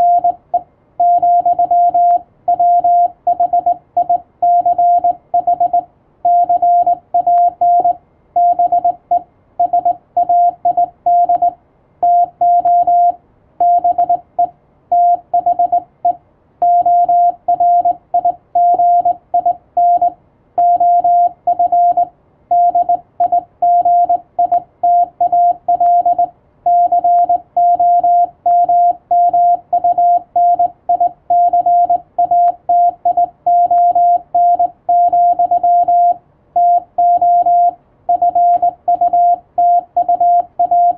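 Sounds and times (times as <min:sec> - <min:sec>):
morse code beeps: 0:00.0 - 0:40.9.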